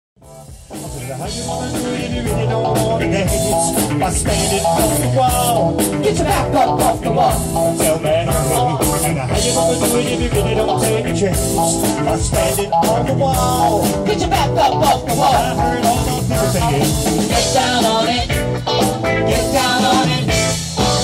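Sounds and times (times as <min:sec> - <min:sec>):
live rock band playing: 0:00.2 - 0:21.0.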